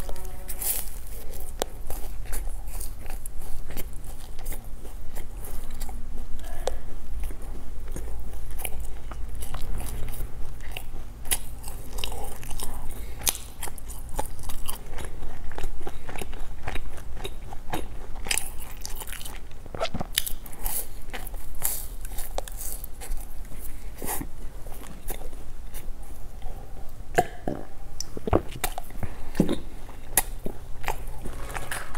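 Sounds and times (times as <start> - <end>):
crunchy chewing of snack bar: 0.0 - 31.9.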